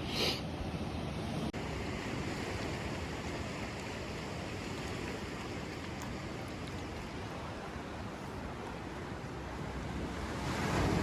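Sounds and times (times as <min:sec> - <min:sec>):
ocean surf: 0:00.0 - 0:11.0.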